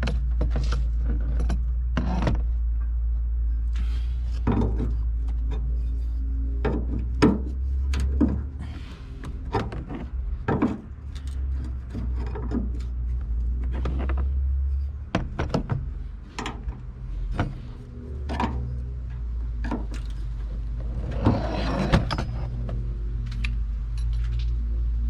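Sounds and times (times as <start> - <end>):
hand work clicks and knocks: 0.0 - 24.7
steady low hum: 0.0 - 25.0.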